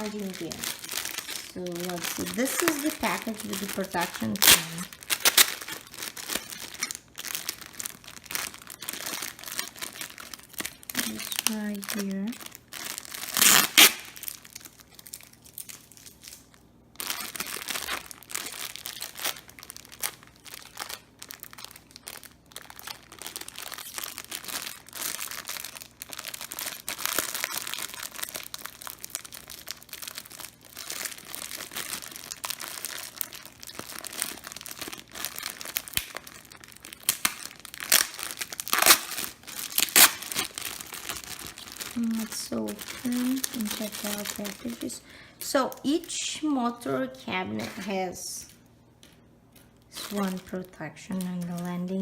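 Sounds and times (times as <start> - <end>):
plastic bag crinkling: 0.0 - 46.2, 49.6 - 52.0.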